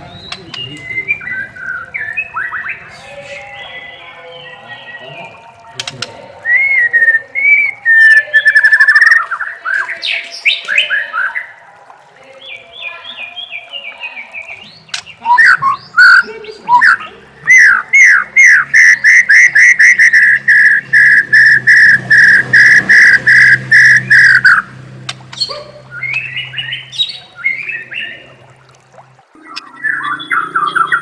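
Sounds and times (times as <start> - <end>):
bird singing: 0.0 - 11.6, 12.3 - 28.5, 29.3 - 31.0.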